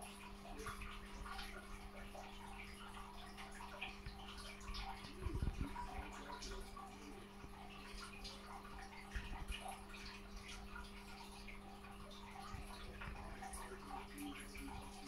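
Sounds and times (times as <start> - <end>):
aquarium filter hum: 0.0 - 15.0
water trickling and bubbling: 0.0 - 15.0.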